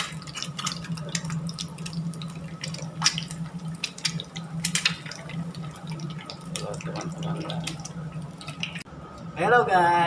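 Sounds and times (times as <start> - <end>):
egg sizzling in hot oil: 0.0 - 8.9
low steady hum: 0.0 - 10.0.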